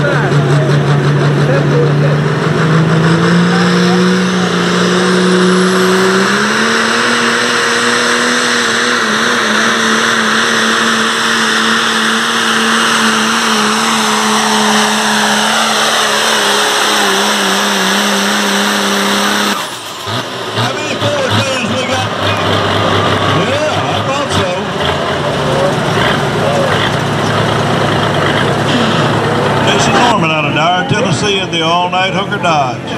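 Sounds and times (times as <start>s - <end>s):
diesel truck engine revving hard: 0.0s - 32.9s
high turbo whine: 0.0s - 32.9s.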